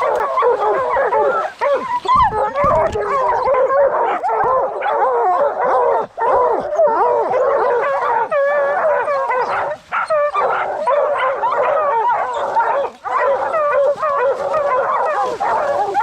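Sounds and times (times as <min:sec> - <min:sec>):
hounds barking and baying: 0:00.0 - 0:16.0.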